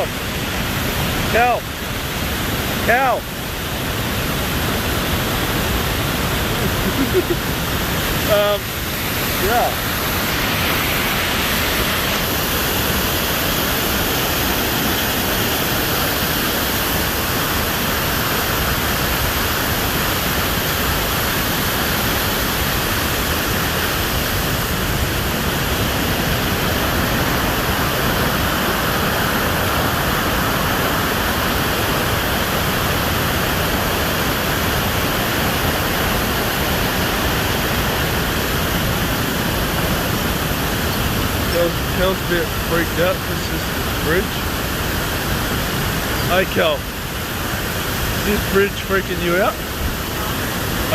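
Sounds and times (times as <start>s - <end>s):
waterfall roaring: 0.0s - 50.9s.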